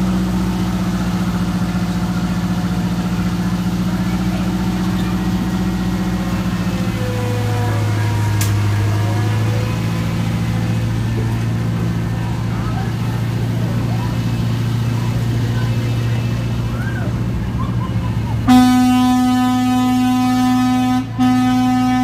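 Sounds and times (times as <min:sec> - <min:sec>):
miniature train engine humming: 0:00.0 - 0:22.0.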